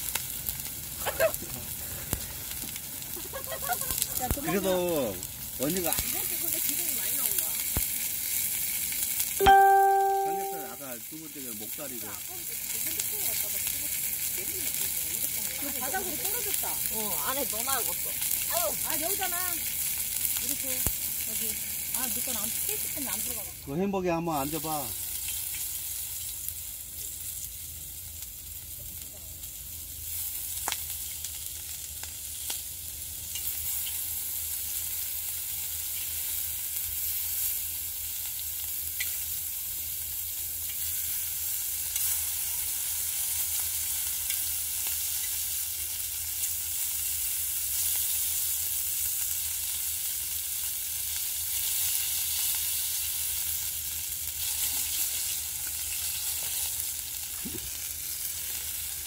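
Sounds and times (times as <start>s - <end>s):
pork sizzling on griddle: 0.0s - 59.0s.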